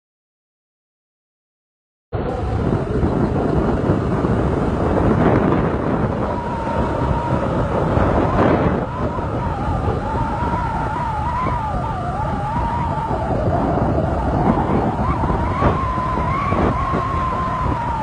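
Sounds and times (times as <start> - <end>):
motorbike running: 2.2 - 18.0
road noise: 2.2 - 18.0
thin wavering whine: 2.2 - 18.0
wind buffeting microphone: 2.2 - 18.0.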